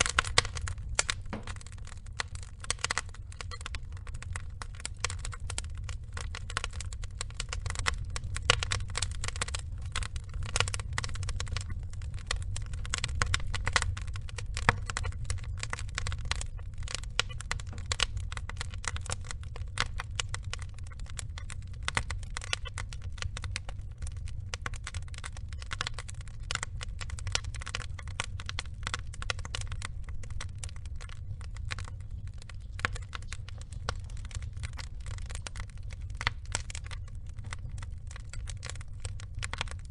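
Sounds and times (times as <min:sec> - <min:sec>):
low rumble: 0:00.0 - 0:39.9
wood logs crackling and popping: 0:00.0 - 0:39.9.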